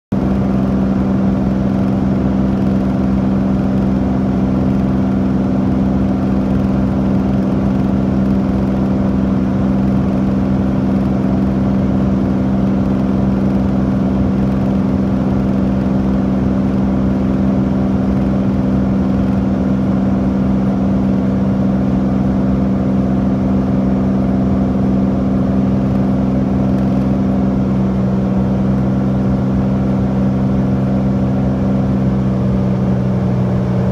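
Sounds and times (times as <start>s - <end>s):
propeller plane engine droning: 0.1s - 33.9s.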